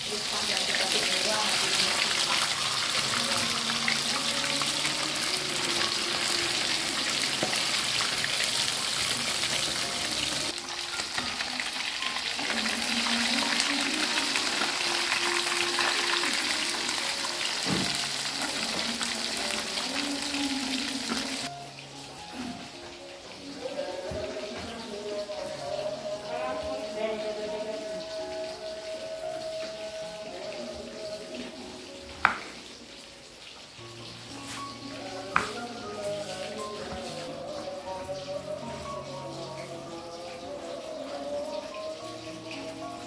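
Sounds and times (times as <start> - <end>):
fish deep-frying in hot oil: 0.0 - 43.0.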